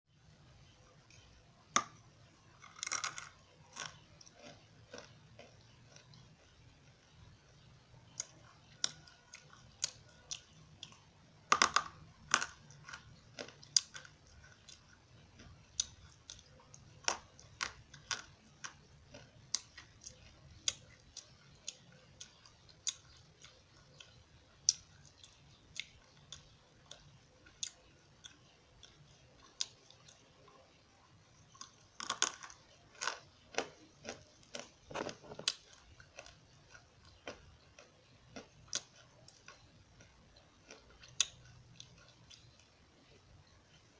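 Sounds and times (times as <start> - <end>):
crunchy clay being chewed: 0.9 - 43.9.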